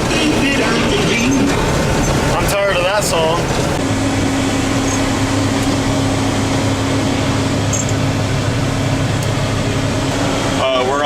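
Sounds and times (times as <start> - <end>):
cab fan blowing: 0.0 - 11.0
combine harvester droning: 0.0 - 11.0.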